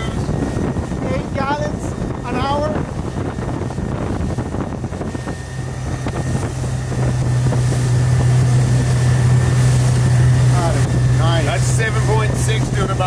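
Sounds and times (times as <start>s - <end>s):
outboard engine hum: 0.0s - 13.0s
wind buffeting microphone: 0.0s - 13.0s.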